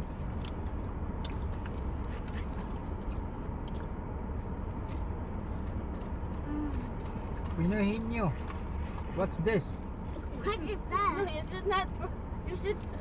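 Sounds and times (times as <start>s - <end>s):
car interior low rumble: 0.0s - 13.0s.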